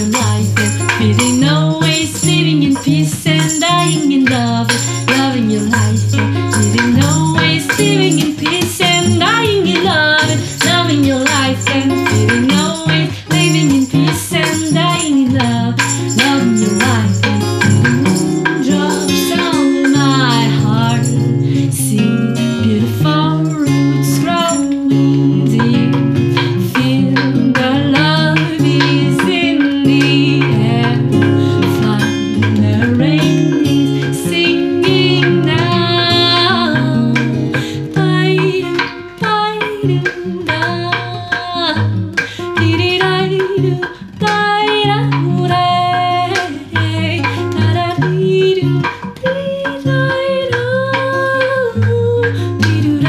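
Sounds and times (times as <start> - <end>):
acoustic guitar: 0.0 - 53.0
devil stick clacks: 0.0 - 53.0
person singing: 0.0 - 53.0.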